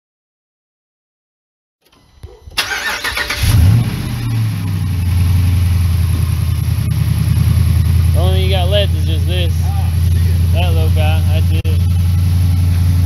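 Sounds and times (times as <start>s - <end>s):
truck engine starting and idling: 1.8s - 13.0s.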